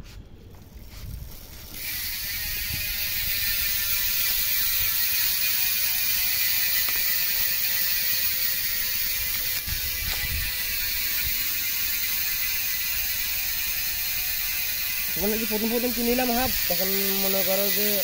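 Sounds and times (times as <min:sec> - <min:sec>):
bicycle freehub ratchet buzzing: 0:00.7 - 0:18.0.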